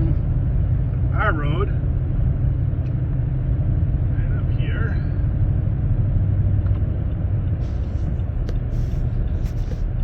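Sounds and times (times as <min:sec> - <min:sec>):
vehicle engine and tyres rumbling: 0:00.0 - 0:10.0.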